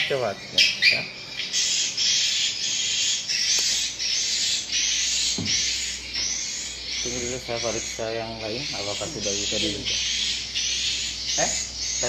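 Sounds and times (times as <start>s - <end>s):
swiftlets chirping: 0.0s - 12.0s.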